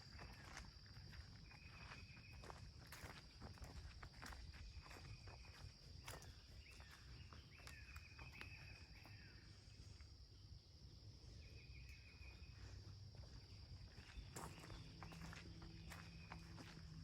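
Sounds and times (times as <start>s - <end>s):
footsteps on a trail: 0.0s - 9.3s, 12.5s - 17.0s
insects droning: 0.0s - 17.0s.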